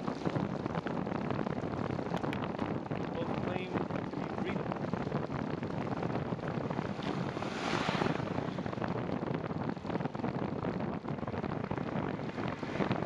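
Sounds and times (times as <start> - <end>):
bicycle tyres on wet path: 0.0 - 13.0
wind buffeting microphone: 0.0 - 13.0.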